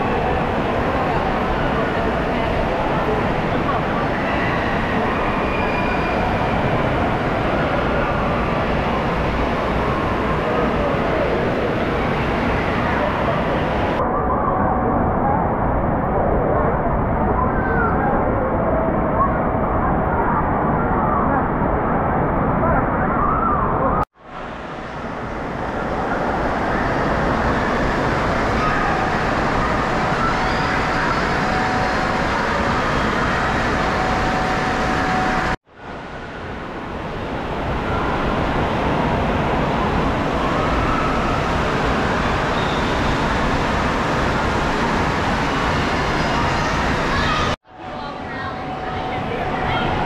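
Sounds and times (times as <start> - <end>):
echoing crowd noise: 0.0 - 50.0.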